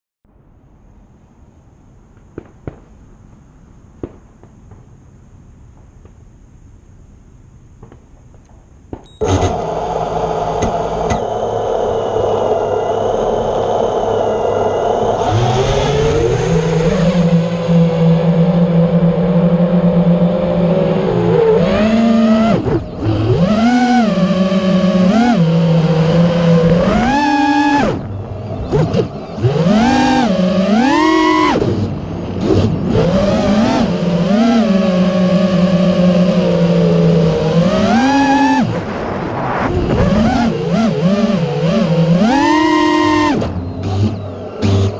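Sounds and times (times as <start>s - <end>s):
engine note wavering and climbing: 7.1s - 44.9s
drone motors whining: 7.8s - 44.9s.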